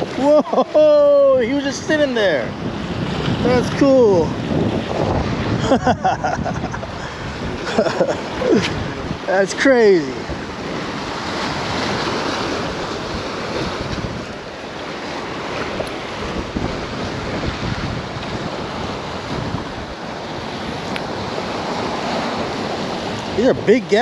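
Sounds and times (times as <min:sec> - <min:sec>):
choppy water splashing: 0:00.0 - 0:24.0
strong wind on microphone: 0:00.0 - 0:24.0.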